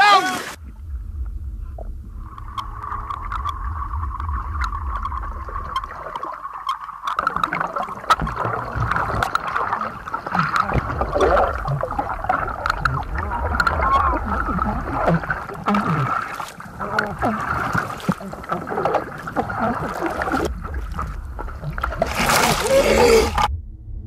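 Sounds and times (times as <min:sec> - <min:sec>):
underwater churning and bubbling: 0:00.4 - 0:24.0
low underwater rumble: 0:00.6 - 0:24.0
small clicks underwater: 0:02.3 - 0:22.6.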